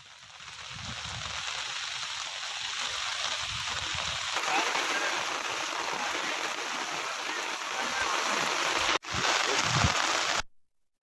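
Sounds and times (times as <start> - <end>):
rushing water hiss: 0.0 - 10.4.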